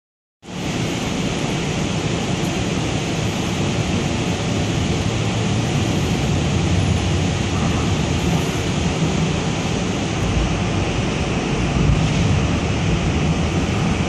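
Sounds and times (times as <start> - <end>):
rail car cabin rumble: 0.5 - 14.0.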